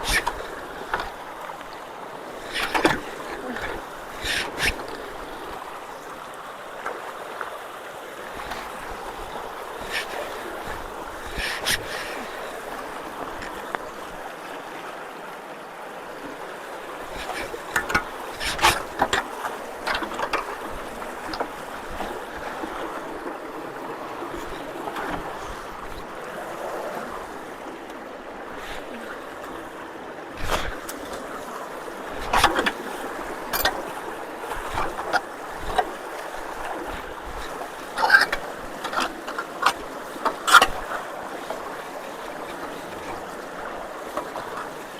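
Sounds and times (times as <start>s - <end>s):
sharp knocks and splashes: 0.0s - 7.1s, 8.3s - 14.3s, 16.2s - 44.9s
rainwater rushing through culvert: 0.0s - 44.9s.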